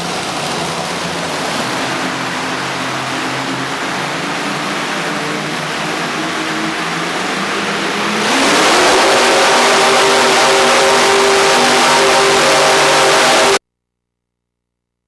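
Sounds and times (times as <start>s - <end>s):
tractor engine revving: 0.0s - 13.6s.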